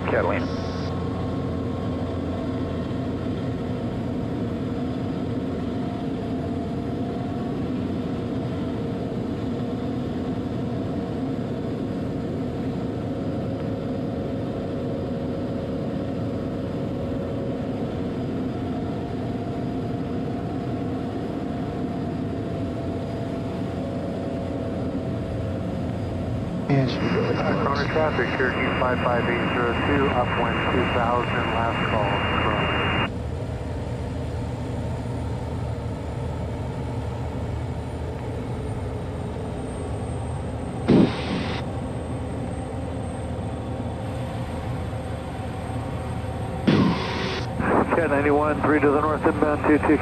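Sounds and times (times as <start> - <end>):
turboprop aircraft engine drone: 0.0 - 50.0.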